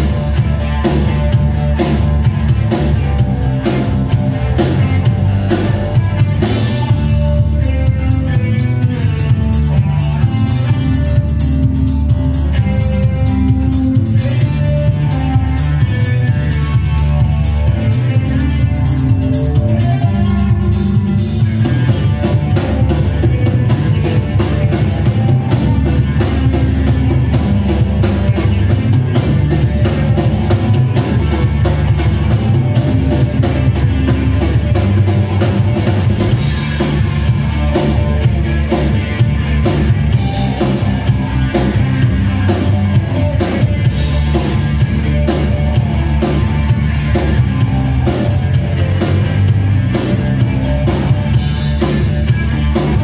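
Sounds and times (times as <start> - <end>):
bass guitar: 0.0 - 53.0
drum kit beat: 0.0 - 53.0
electric guitar: 0.0 - 53.0.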